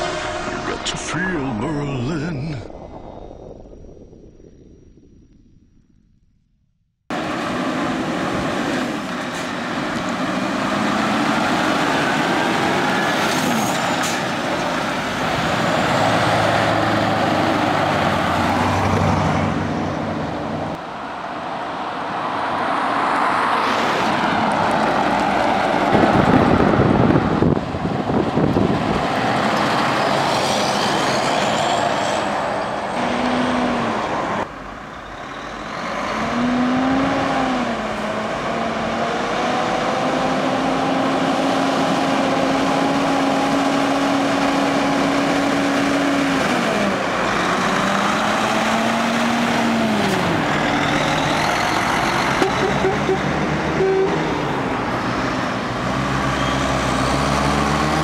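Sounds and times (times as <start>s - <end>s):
heavy trucks driving past: 0.0s - 3.5s, 7.1s - 58.0s.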